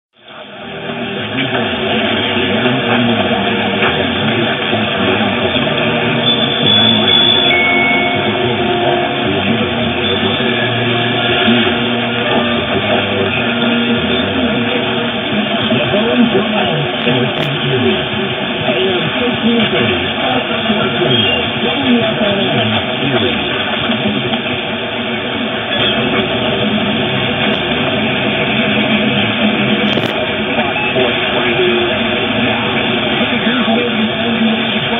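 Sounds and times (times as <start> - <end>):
guitar music over radio: 0.2 - 34.9
interference whistles: 0.2 - 34.9
radio static: 0.2 - 34.9.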